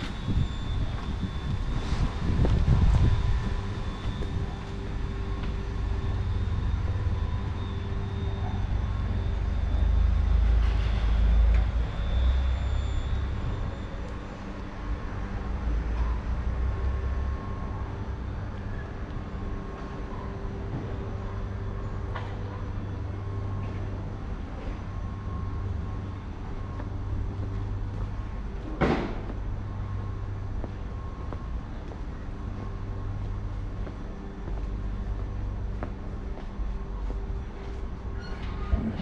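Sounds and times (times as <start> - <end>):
faint machinery hum: 0.0 - 39.0
low rumble of traffic: 0.0 - 39.0.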